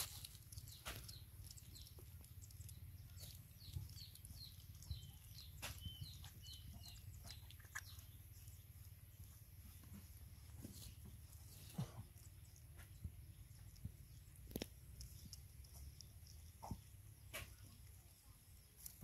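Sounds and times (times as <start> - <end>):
puppies lapping and chewing: 0.0 - 17.2.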